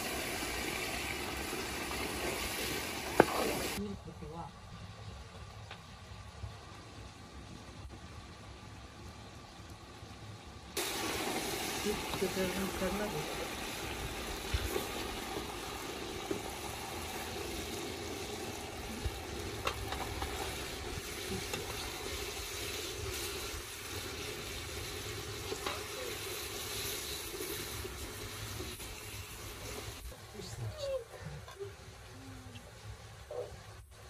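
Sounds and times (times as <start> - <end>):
sauce sizzling in a pot: 0.0 - 3.8, 6.1 - 34.0.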